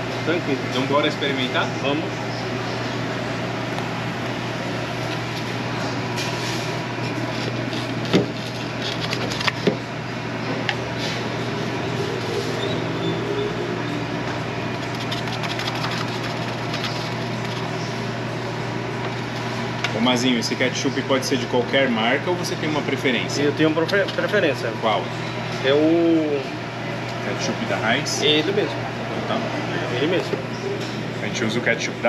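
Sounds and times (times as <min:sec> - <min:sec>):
low machinery hum: 0:00.0 - 0:32.0.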